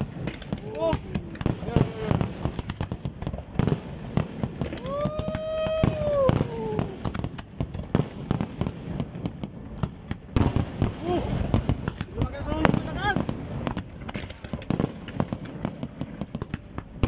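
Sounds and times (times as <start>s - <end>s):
fireworks bursts and crackling: 0.0s - 17.0s.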